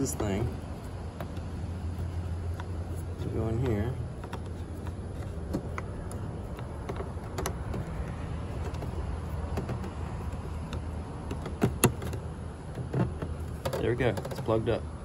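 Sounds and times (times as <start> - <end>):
steady low hum: 0.0 - 15.0
plastic connector clicks and scrapes: 0.2 - 12.2.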